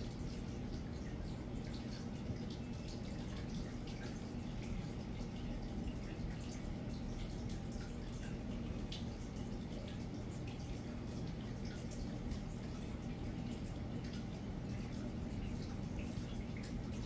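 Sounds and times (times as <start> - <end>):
aquarium equipment hum: 0.0 - 17.0
water trickling: 0.0 - 17.0.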